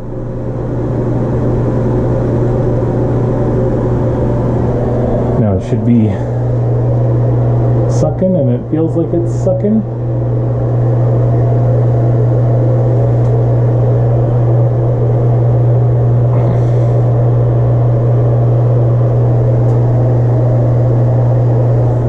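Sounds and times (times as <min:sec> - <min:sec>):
exhaust fan humming: 0:00.0 - 0:22.0.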